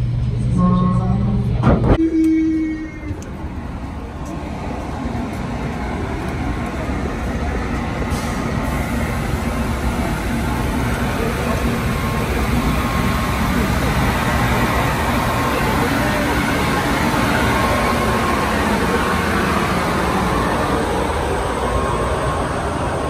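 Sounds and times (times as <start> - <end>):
train engine rumbling: 0.0 - 23.0.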